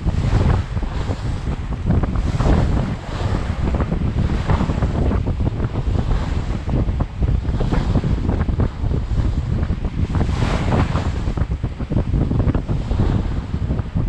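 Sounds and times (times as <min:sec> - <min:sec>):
water rushing along a hull: 0:00.0 - 0:14.0
wind buffeting microphone: 0:00.0 - 0:14.0.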